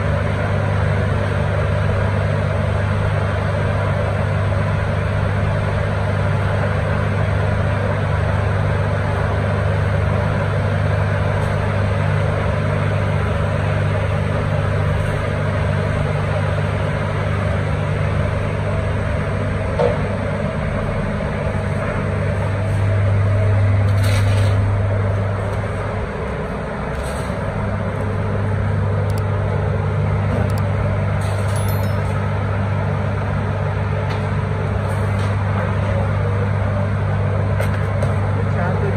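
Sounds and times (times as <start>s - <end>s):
loud low machine hum: 0.0s - 38.9s.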